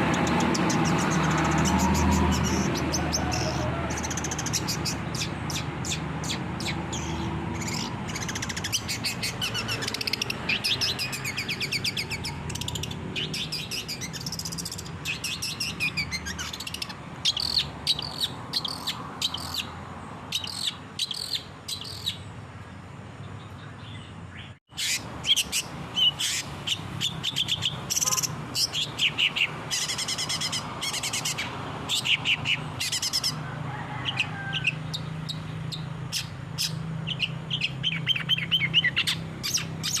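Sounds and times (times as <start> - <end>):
shrike chattering song: 0.0 - 22.3, 24.4 - 33.4, 34.0 - 40.0.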